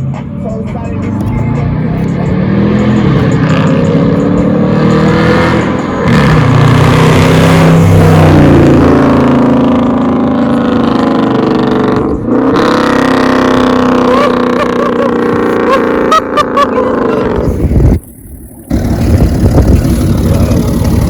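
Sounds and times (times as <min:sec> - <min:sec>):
car engine accelerating through gears: 0:00.0 - 0:21.0.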